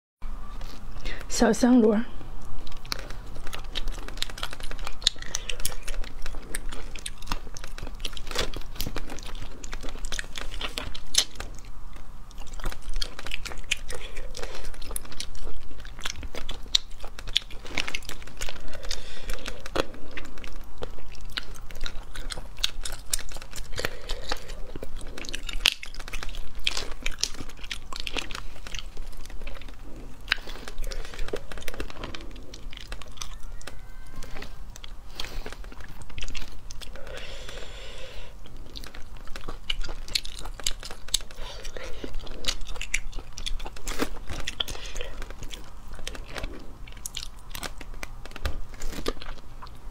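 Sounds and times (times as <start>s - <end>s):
chewing: 0.4s - 1.3s, 2.1s - 49.9s.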